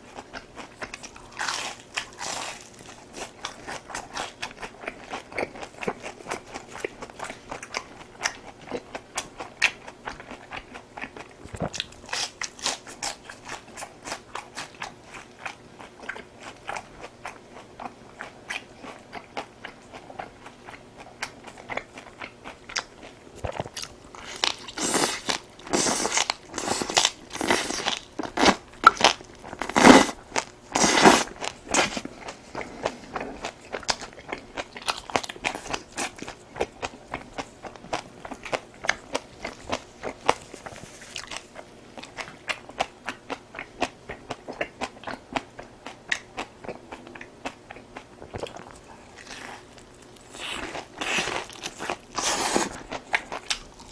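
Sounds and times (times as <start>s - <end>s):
person chewing and crunching: 0.0s - 53.9s.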